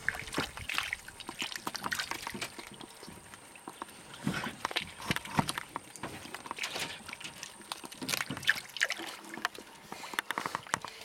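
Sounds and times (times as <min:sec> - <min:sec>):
otters chewing fish: 0:00.0 - 0:11.0
small water splashes: 0:00.0 - 0:11.0.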